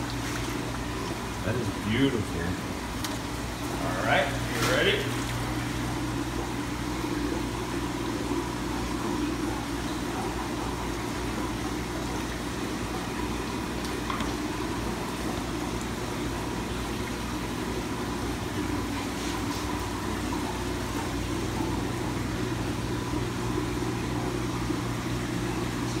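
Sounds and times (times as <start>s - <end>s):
aquarium pumps droning: 0.0s - 26.0s
circulating water: 0.0s - 26.0s.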